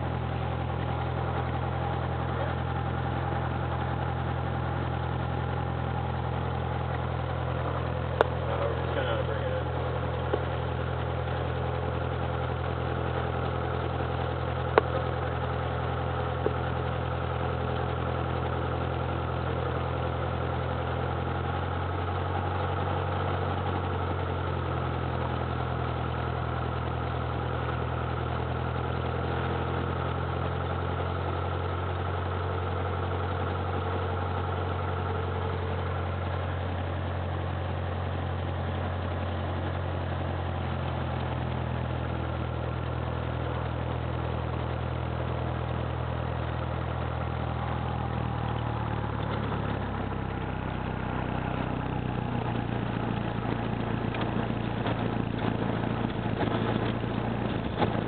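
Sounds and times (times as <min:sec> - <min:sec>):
propeller plane engine idling: 0:00.0 - 0:58.0.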